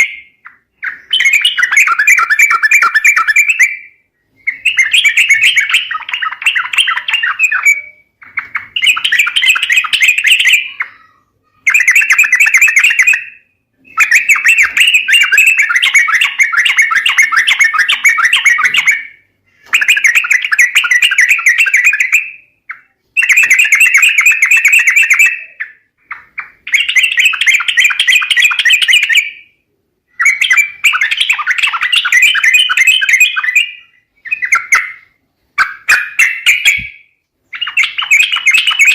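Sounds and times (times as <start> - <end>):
bird rapid chattering song: 0.0 - 38.9.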